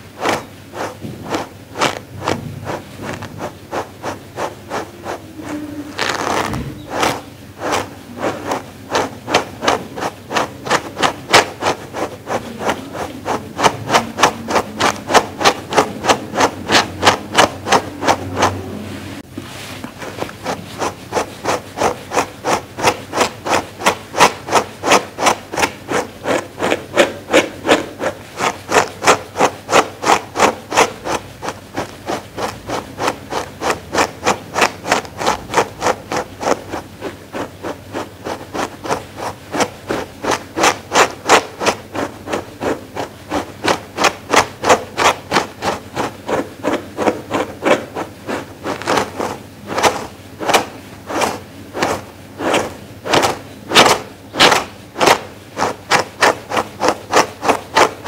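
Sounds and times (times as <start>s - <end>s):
brush stroking over fur: 0.0s - 58.0s.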